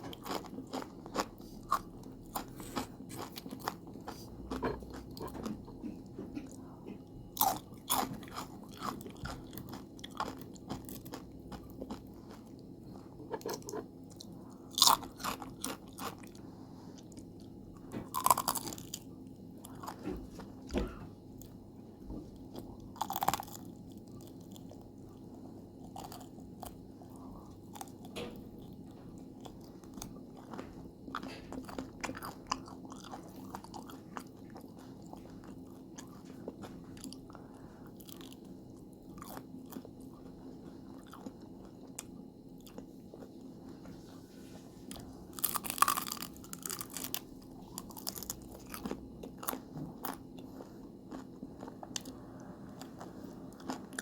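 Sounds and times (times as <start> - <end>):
crunching chips and chewing: 0.0 - 44.0, 44.8 - 54.0
steady low hum: 0.0 - 54.0.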